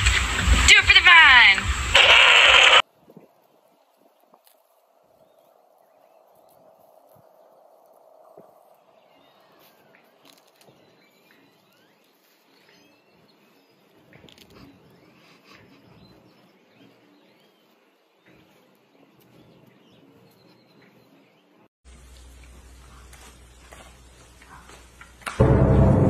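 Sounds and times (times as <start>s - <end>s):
small birds chirping: 3.5s - 25.3s.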